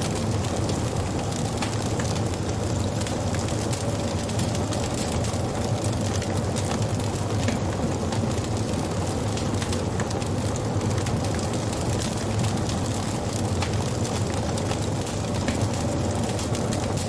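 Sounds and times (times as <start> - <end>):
fire crackles and pops: 0.0 - 17.0
wood fire rumbling: 0.0 - 17.0.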